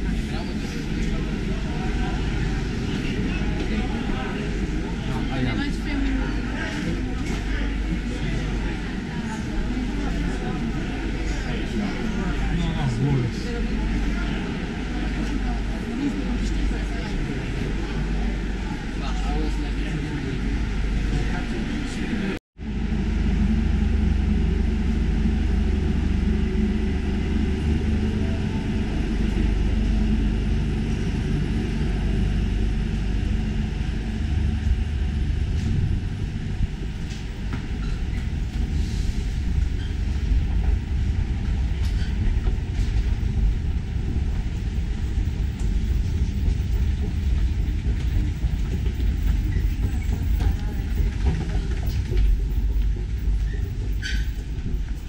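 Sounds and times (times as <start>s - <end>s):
low rumble of metro station: 0.0s - 55.0s.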